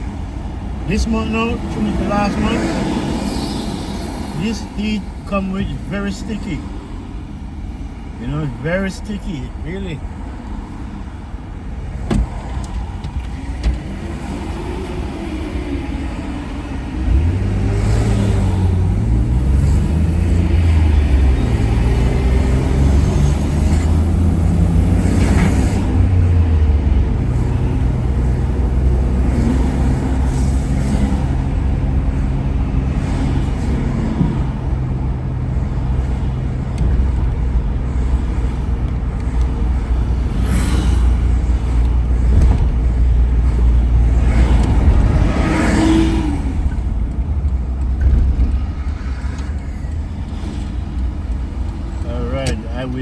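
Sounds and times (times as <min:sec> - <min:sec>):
car engine and road rumble: 0:00.0 - 0:53.0
passing traffic: 0:00.0 - 0:53.0.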